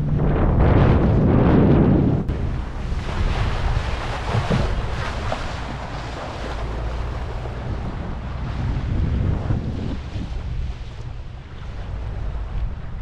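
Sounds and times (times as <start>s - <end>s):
motorboat engine drone: 0.0s - 13.0s
water rushing past boat hull: 0.0s - 13.0s
wind buffeting microphone: 0.0s - 13.0s.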